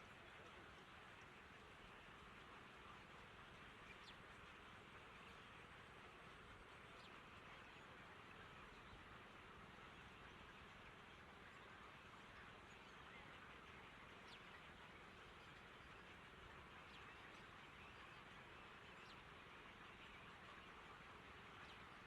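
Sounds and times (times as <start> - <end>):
faint outdoor background hiss: 0.0 - 22.0.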